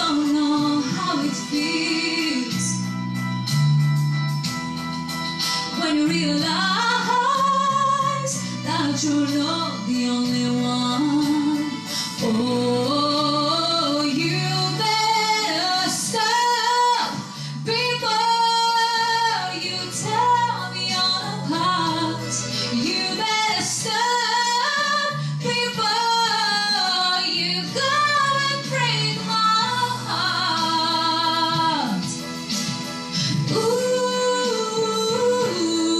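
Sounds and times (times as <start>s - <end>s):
woman singing slow song: 0.0s - 3.0s, 5.7s - 32.2s, 33.4s - 35.9s.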